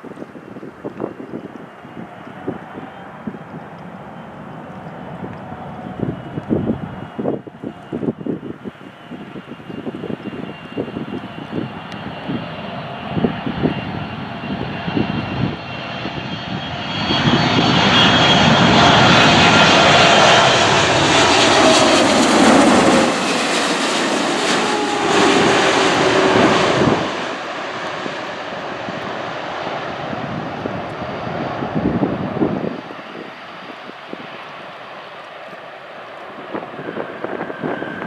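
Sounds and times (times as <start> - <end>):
wind buffeting microphone: 0.0 - 35.2, 36.2 - 38.0
jet airliner passing overhead: 0.0 - 38.0.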